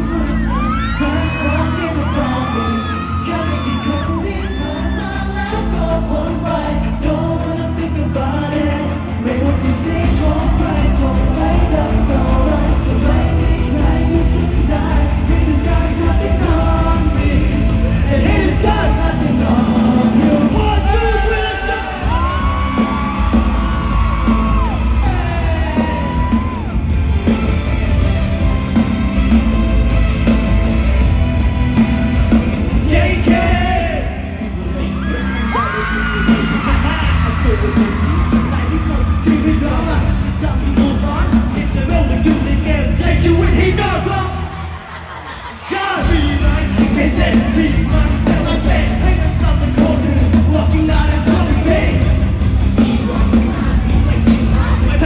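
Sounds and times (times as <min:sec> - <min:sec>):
audience yelling and whooping: 0:00.0 - 0:07.0, 0:09.2 - 0:55.0
man singing: 0:00.0 - 0:26.8, 0:32.4 - 0:55.0
live pop music with bass beat: 0:00.0 - 0:55.0.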